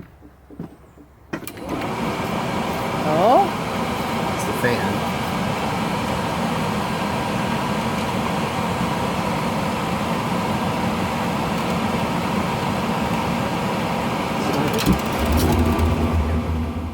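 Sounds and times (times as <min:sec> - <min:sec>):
furnace blower fan running: 0:01.5 - 0:16.9.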